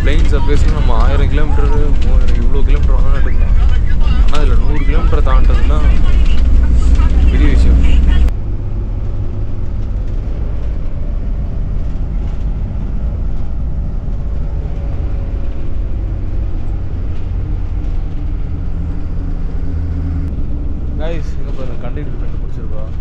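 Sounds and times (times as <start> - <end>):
road rumble: 0.0 - 23.0
vehicle engine drone: 0.0 - 23.0.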